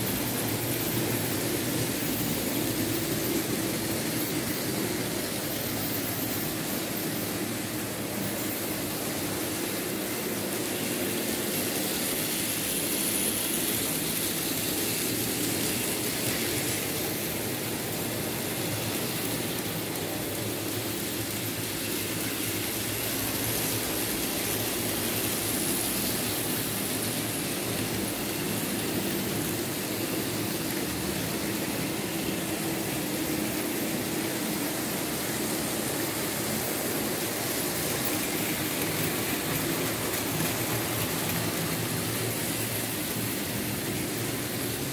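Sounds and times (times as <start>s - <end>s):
model train motors whirring: 0.0s - 44.9s.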